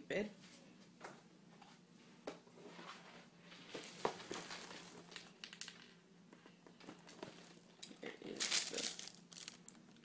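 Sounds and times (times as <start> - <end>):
faint crinkling: 1.7 - 10.0.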